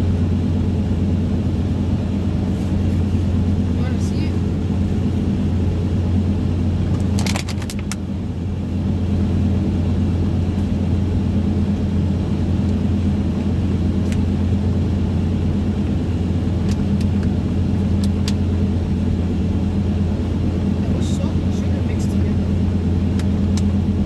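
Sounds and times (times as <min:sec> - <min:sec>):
car road noise at highway speed: 0:00.0 - 0:24.0.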